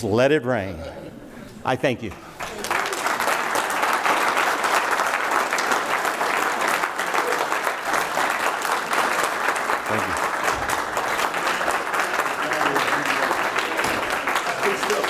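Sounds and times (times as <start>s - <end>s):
crowd applauding: 2.1s - 15.0s.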